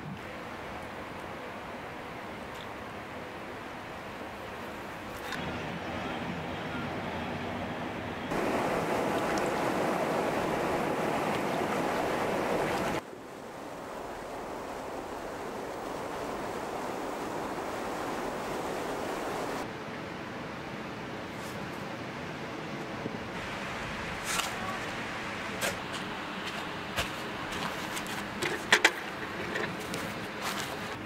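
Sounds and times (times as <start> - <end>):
fast river rushing: 0.0 - 31.0.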